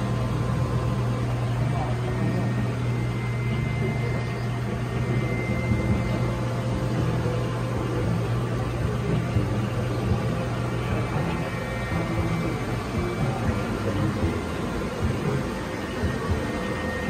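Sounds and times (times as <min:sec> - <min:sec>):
aquarium pumps humming: 0:00.0 - 0:17.0
faint thin whine: 0:00.0 - 0:17.0.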